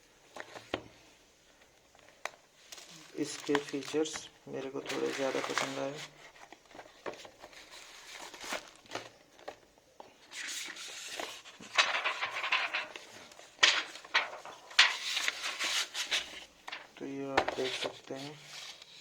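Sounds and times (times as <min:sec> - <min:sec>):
packaging box rustling: 0:01.9 - 0:19.0.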